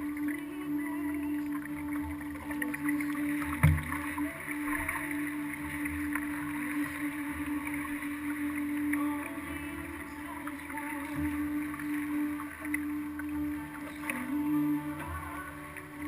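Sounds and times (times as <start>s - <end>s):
water washing against hull: 0.0s - 16.0s.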